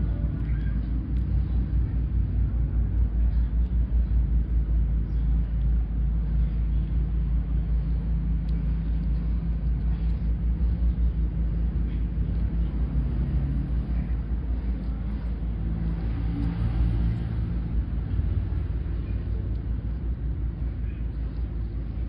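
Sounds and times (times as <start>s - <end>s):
fluttering low motor rumble: 0.0s - 22.0s.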